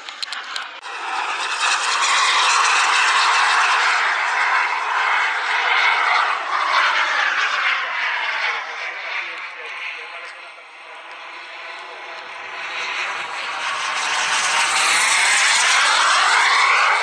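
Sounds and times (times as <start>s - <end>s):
model jet rushing noise: 0.0s - 17.0s.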